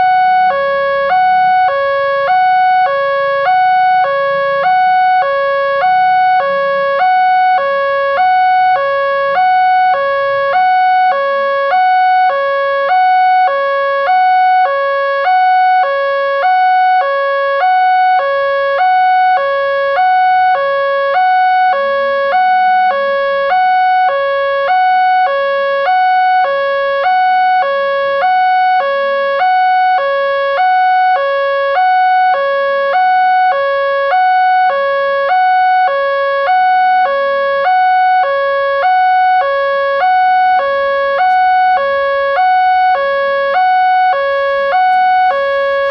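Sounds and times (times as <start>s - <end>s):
two-tone warning alarm: 0.0s - 45.9s.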